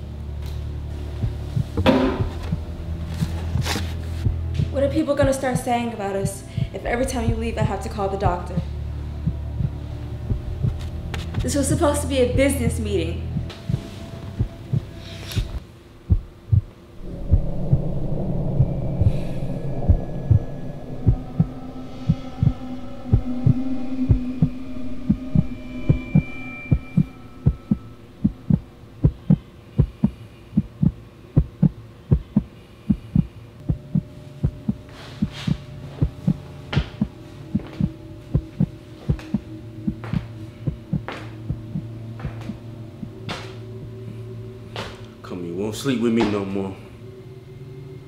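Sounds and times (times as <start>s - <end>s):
low droning hum: 0.0s - 48.0s
heartbeat thumps: 1.2s - 12.6s, 13.3s - 43.2s.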